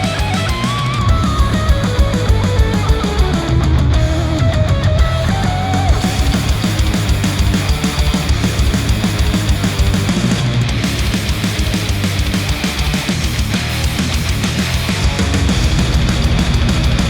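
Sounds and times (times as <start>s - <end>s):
rock music through headphones: 0.0s - 17.0s.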